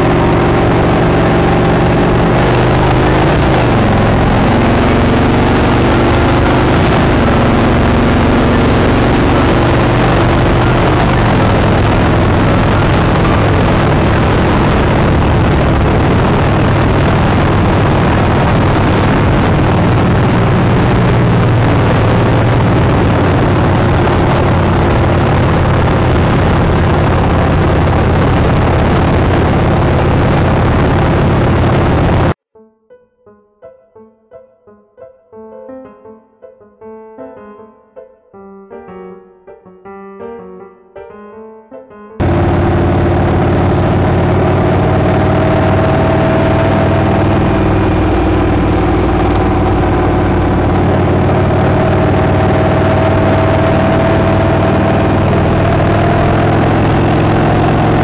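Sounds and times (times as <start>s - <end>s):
motorcycle engine running: 0.0s - 32.4s, 42.2s - 58.0s
wind and road noise: 0.0s - 32.4s, 42.2s - 58.0s.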